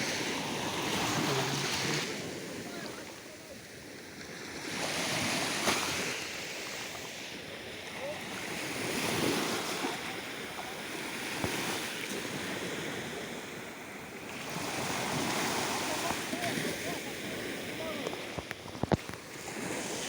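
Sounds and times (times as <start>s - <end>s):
small waves washing ashore: 0.0s - 20.0s.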